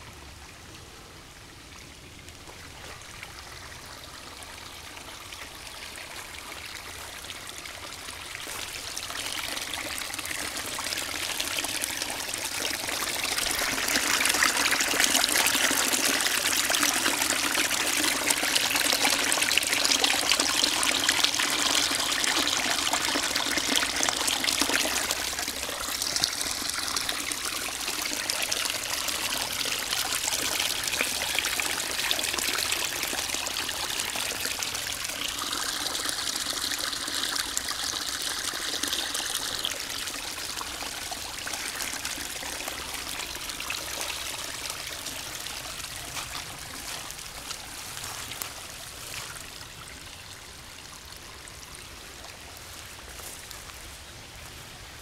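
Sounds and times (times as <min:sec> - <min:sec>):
sewage water rushing out: 0:05.6 - 0:49.7.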